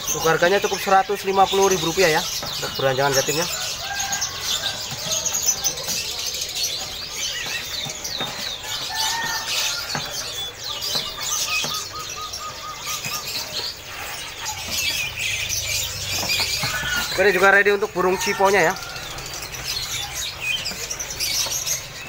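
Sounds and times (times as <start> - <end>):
songbirds chirping chorus: 0.0 - 22.0.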